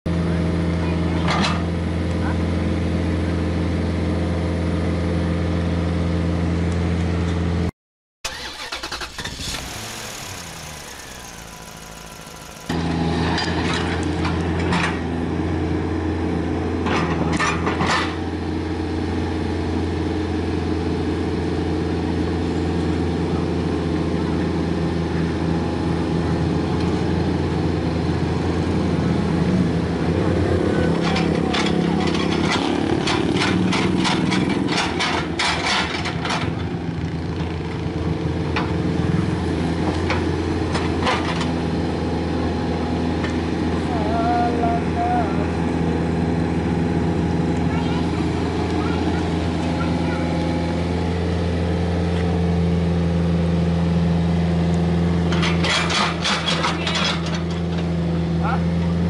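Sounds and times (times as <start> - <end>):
excavator diesel engine running: 8.3 - 59.0.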